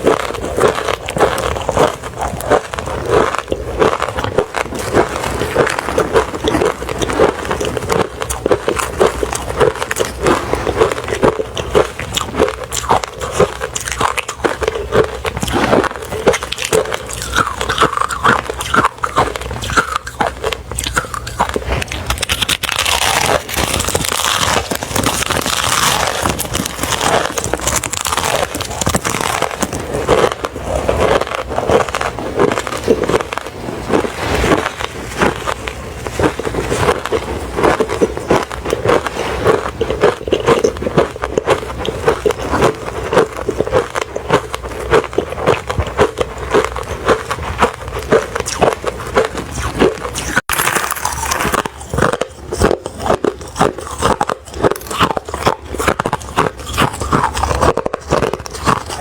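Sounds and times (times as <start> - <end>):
person chewing crushed ice: 0.0 - 59.0.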